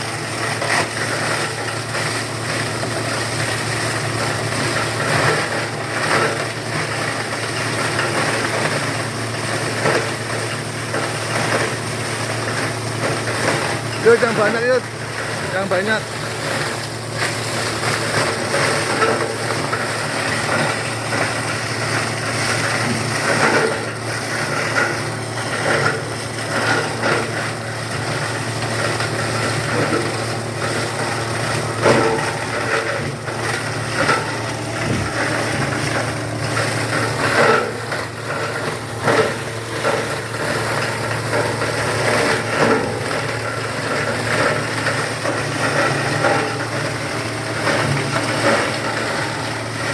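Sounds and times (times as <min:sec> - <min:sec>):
shredding machine humming: 0:00.0 - 0:49.9.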